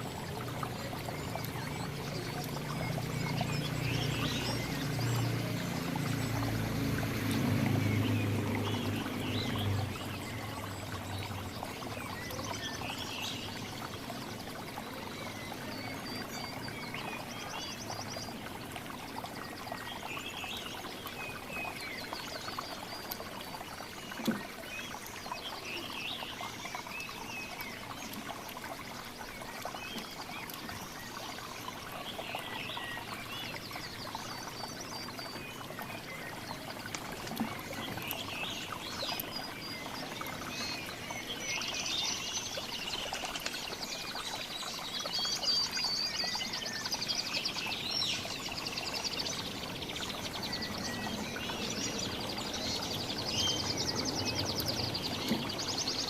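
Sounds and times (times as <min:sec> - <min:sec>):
running water: 0:00.0 - 0:56.0
small birds chirping: 0:00.0 - 0:56.0.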